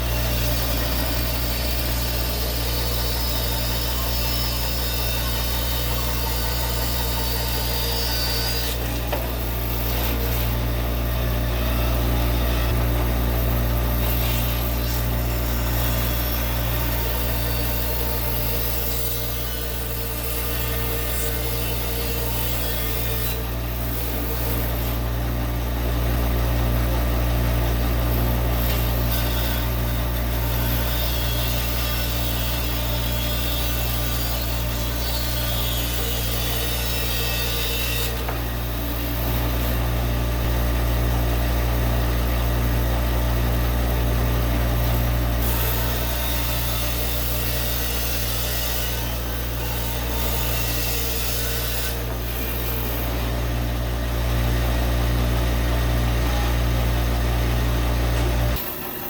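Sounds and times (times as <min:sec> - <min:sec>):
bandsaw blade cutting log: 0:00.0 - 0:40.5, 0:44.2 - 0:59.0
bandsaw motor humming: 0:00.0 - 0:59.0.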